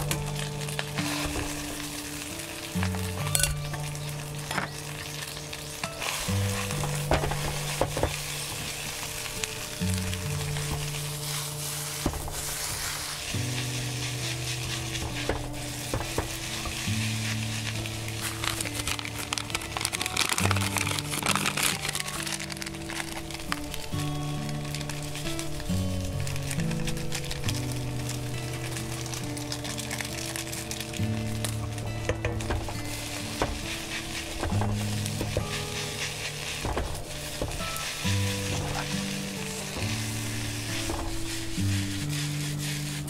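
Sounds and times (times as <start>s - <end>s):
rice sizzling in a wok: 0.0s - 43.0s
spatula scraping a pan: 0.0s - 43.0s.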